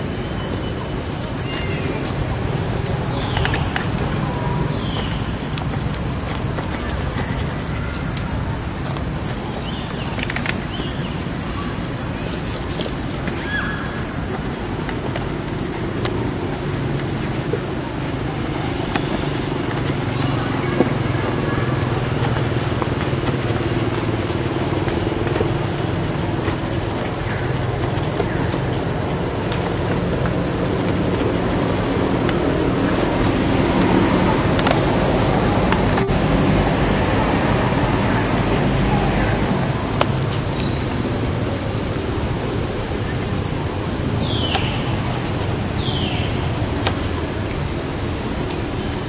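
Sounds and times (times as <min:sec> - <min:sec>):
outdoor background rumble and hiss: 0:00.0 - 0:49.0.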